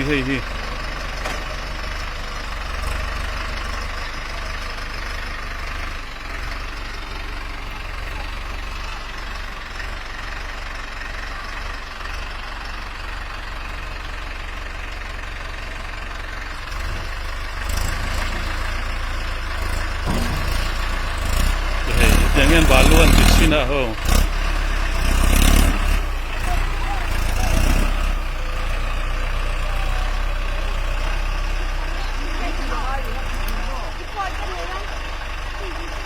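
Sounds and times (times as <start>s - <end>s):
tractor engine rumbling: 0.0s - 36.0s.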